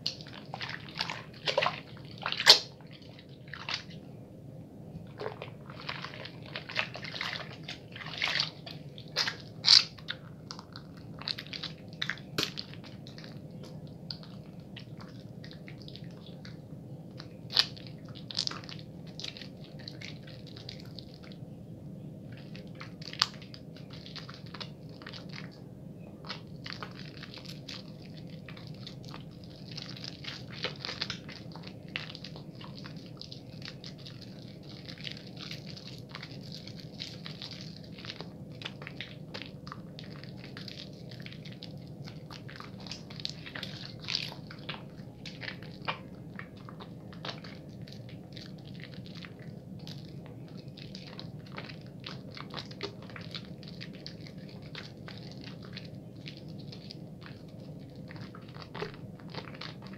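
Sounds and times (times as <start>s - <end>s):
soap lathering squishes: 0.0s - 4.2s, 4.8s - 21.6s, 22.2s - 59.9s.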